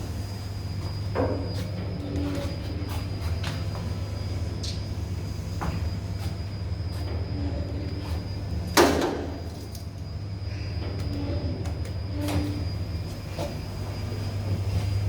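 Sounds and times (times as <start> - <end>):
elevator machinery hum: 0.0 - 15.0.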